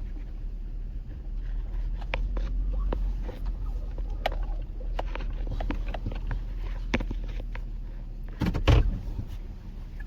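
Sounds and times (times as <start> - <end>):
vehicle cabin rumble: 0.0 - 10.0
vehicle rattling over bumps: 0.0 - 10.0.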